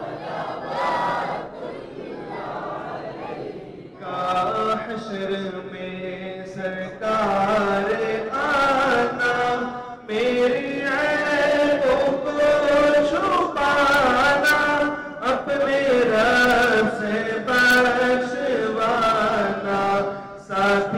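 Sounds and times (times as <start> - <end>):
person chanting: 3.9 - 20.9.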